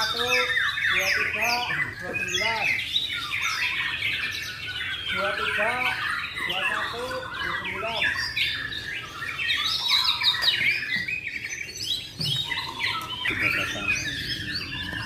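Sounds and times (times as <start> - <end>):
songbird singing whistled notes: 0.0 - 15.0.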